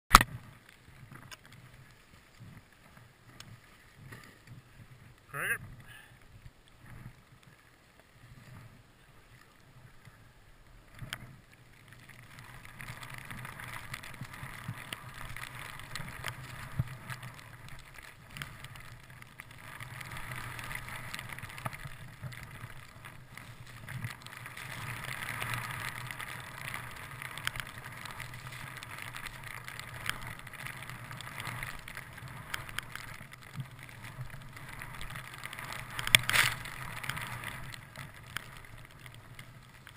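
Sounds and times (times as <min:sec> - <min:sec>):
skis swishing through snow: 0:00.2 - 0:39.9.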